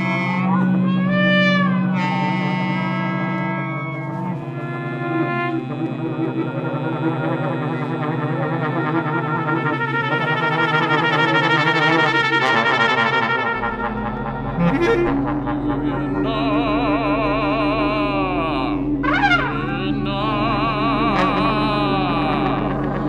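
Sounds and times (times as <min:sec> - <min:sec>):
deep drone: 0:00.0 - 0:23.0
trombone and bass clarinet tones: 0:00.0 - 0:23.0.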